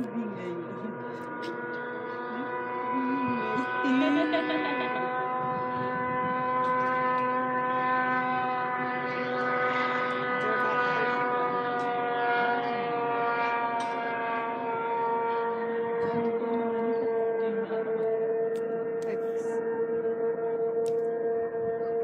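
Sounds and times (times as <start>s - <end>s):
snowmobile engine whining: 0.0s - 22.0s.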